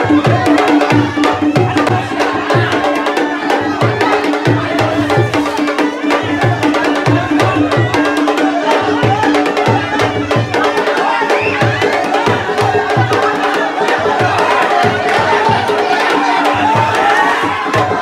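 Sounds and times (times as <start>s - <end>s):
loud festival music: 0.0s - 18.0s.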